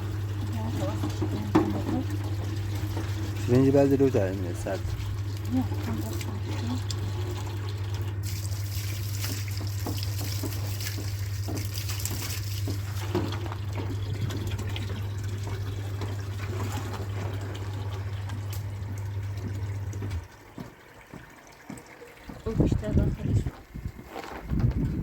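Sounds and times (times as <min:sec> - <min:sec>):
washing machine motor hum: 0:00.0 - 0:25.0
water sloshing: 0:00.0 - 0:25.0.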